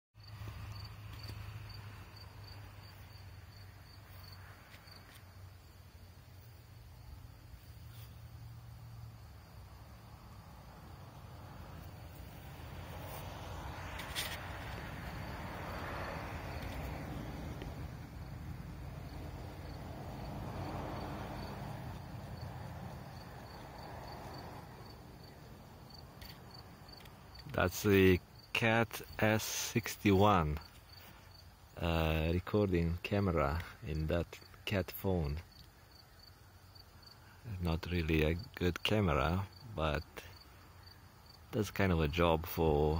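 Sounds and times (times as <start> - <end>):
cricket chirping: 0.2 - 42.9.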